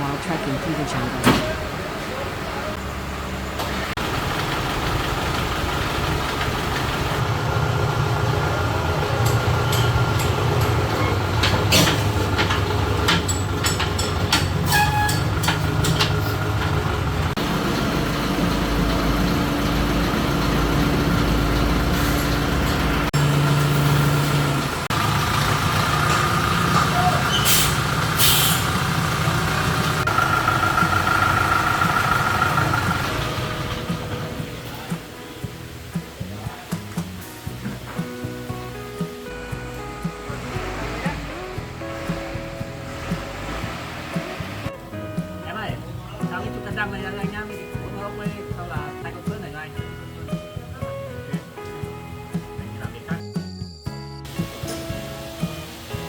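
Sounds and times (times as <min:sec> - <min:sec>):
vehicle engine running: 0:00.0 - 0:53.2.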